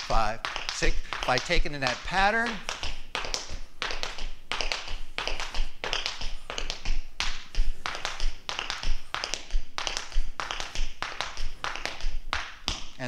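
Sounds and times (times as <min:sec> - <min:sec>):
tap shoes dancing: 0:00.0 - 0:13.0.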